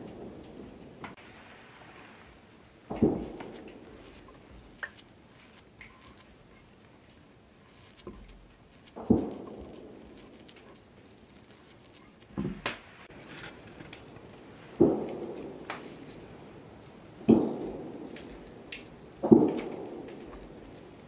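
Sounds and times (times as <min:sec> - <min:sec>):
dough crackling and crumbling: 0:02.9 - 0:21.0.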